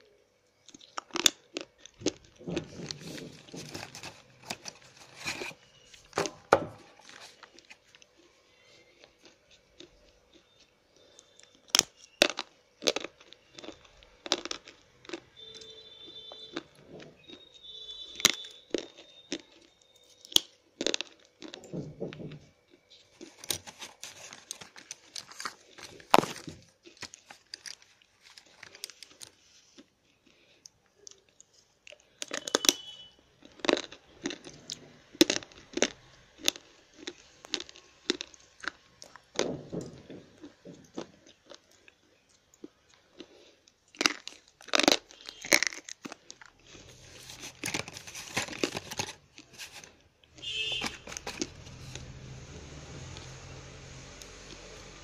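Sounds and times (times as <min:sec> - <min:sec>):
pencils crunching when bitten: 0:00.6 - 0:06.4, 0:07.0 - 0:21.8, 0:22.7 - 0:52.3.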